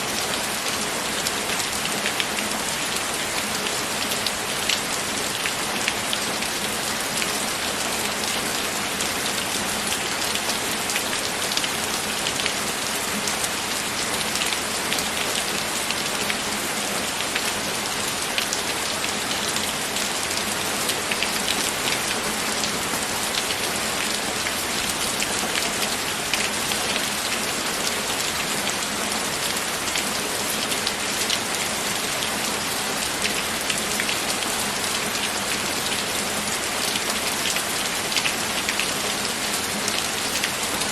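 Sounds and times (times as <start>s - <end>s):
steady rain falling: 0.0s - 40.9s
ticks of raindrops: 0.1s - 40.9s.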